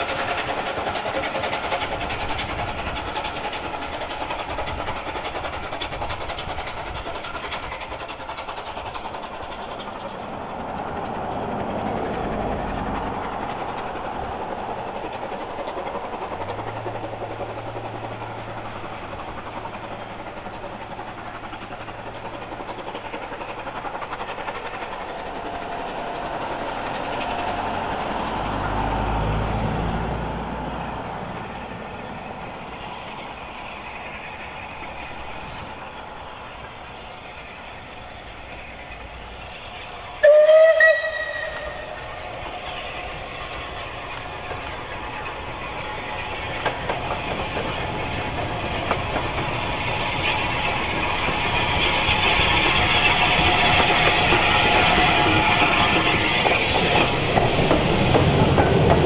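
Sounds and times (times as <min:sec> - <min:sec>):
steam locomotive working uphill: 0:00.0 - 0:59.0.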